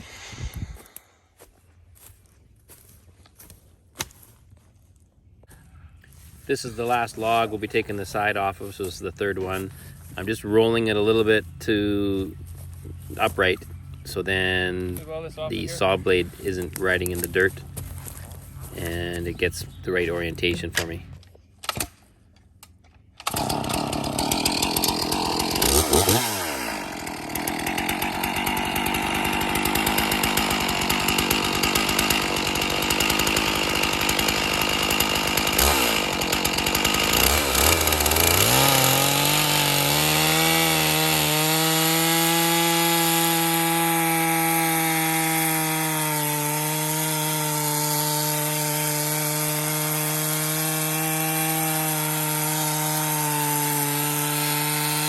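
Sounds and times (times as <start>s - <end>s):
chainsaw cutting log: 0.0s - 1.1s, 6.8s - 18.1s, 23.2s - 55.0s.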